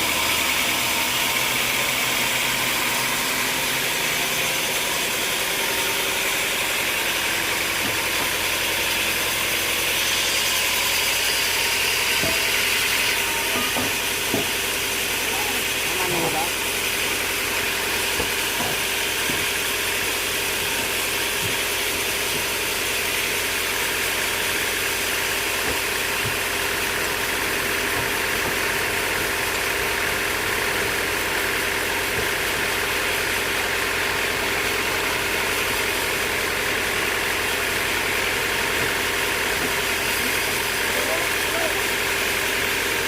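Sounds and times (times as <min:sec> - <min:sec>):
sawmill machinery hum and whir: 0:00.0 - 0:43.0.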